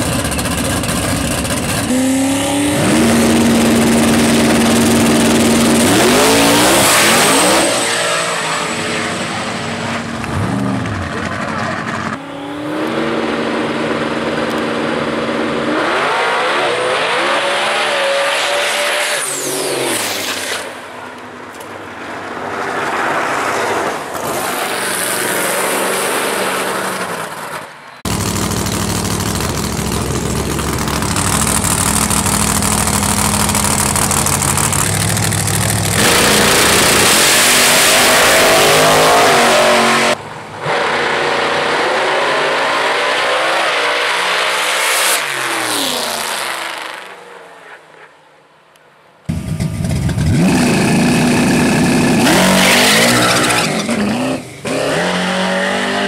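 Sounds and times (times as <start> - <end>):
race car engines revving: 0.0 - 48.1, 49.3 - 56.0.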